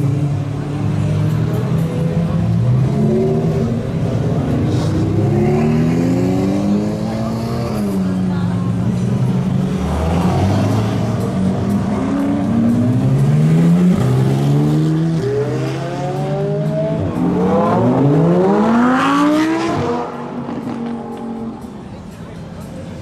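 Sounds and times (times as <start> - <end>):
sports car engines revving: 0.0 - 23.0.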